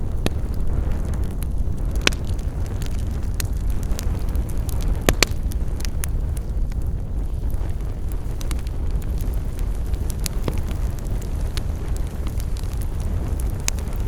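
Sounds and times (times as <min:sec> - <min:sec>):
campfire burning: 0:00.0 - 0:14.0
wood crackling and popping: 0:00.0 - 0:14.0.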